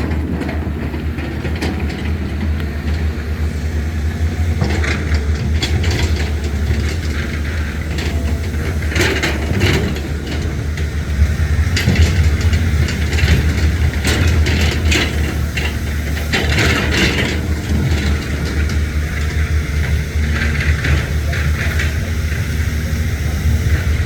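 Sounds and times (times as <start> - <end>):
diesel machinery running: 0.0 - 24.0
metallic clanks and rattles: 4.2 - 24.0.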